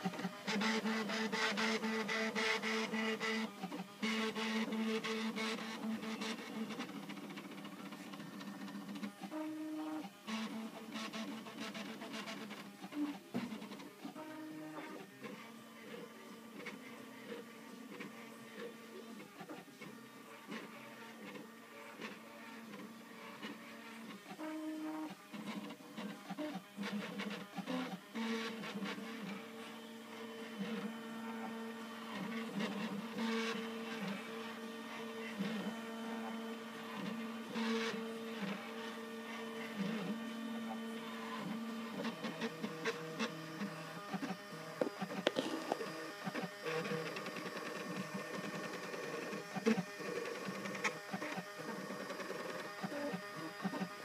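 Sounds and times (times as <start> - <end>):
three d printer stepper motors whining: 0.0 - 54.0.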